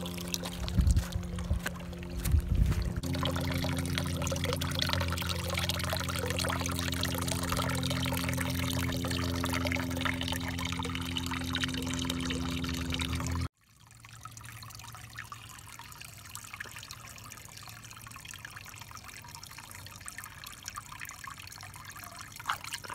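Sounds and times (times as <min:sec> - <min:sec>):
hose water splashing into pond: 0:00.0 - 0:22.9.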